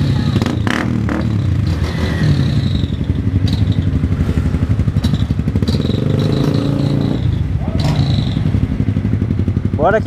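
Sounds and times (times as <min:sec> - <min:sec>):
motorcycle engines idling: 0:00.0 - 0:10.0.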